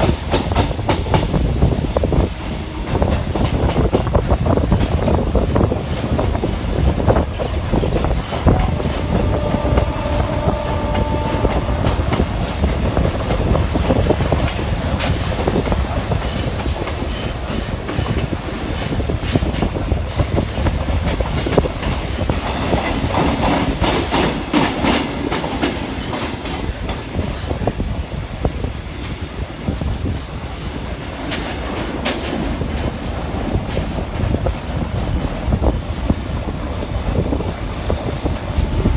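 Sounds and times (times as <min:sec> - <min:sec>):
electric train rumbling: 0:00.0 - 0:38.9.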